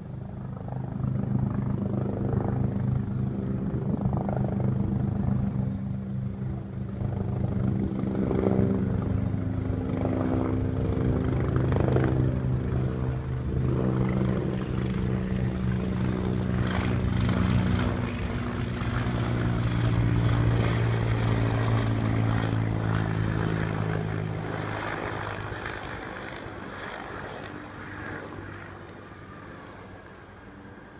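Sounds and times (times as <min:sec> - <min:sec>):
helicopter rotor beating: 0:00.0 - 0:30.9.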